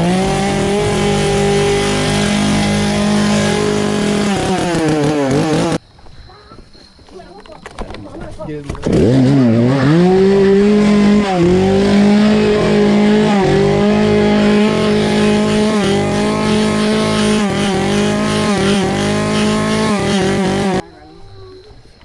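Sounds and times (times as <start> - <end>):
chainsaw at full throttle: 0.0 - 5.8, 8.8 - 20.8.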